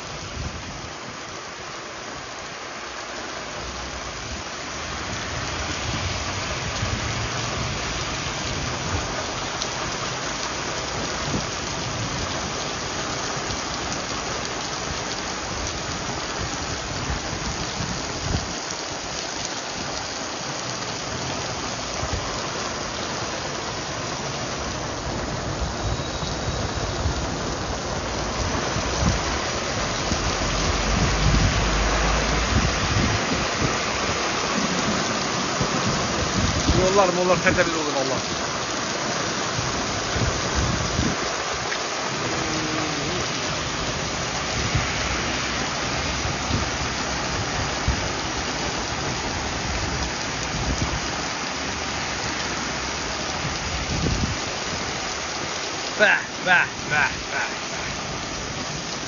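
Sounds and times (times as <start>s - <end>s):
heavy rain on street: 0.0s - 59.0s.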